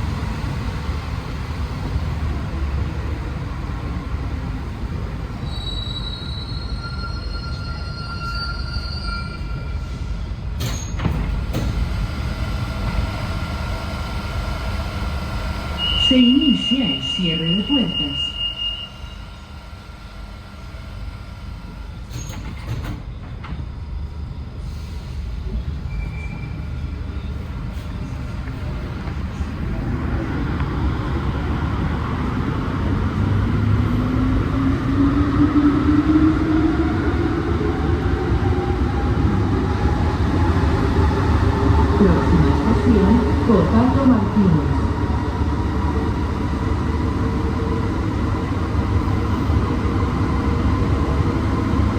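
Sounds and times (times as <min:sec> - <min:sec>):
train hum and rumble: 0:00.0 - 0:51.9.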